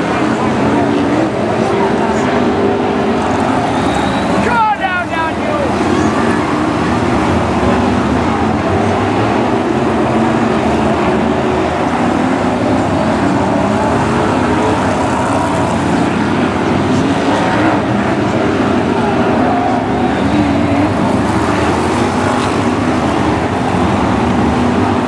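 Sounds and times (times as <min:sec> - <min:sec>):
race car engines droning: 0:00.0 - 0:25.0.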